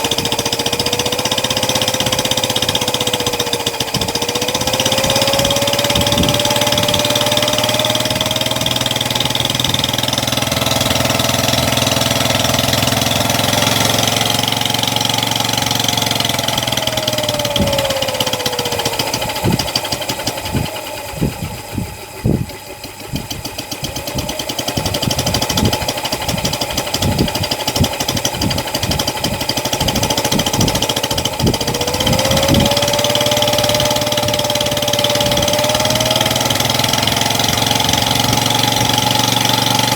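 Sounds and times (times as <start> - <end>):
small engine whining: 0.0 - 39.9.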